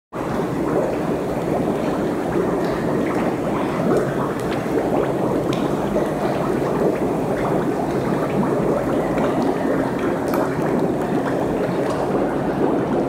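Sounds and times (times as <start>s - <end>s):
mud bubbling and plopping: 0.1s - 13.0s.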